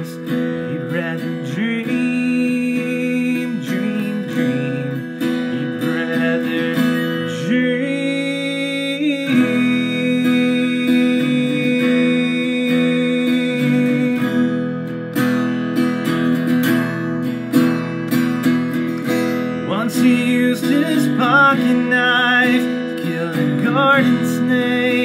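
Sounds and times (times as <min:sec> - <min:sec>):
man singing: 0:00.0 - 0:15.4, 0:19.0 - 0:25.0
acoustic guitar strumming: 0:00.0 - 0:25.0.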